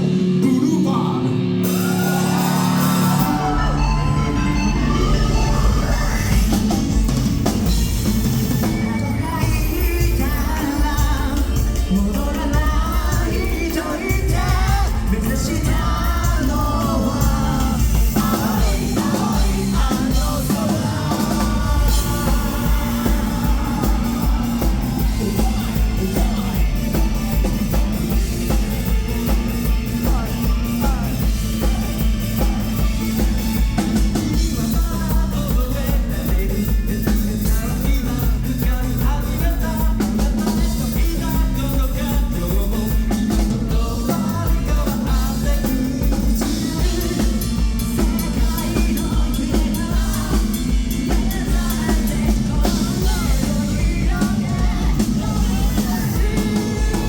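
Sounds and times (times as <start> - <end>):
person singing: 0.0 - 6.8, 8.6 - 57.0
rock band playing loudly: 0.0 - 57.0.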